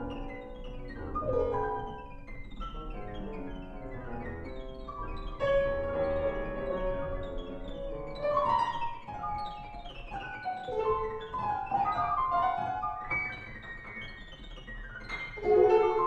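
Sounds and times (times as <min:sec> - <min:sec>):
grand piano notes: 0:00.0 - 0:16.0.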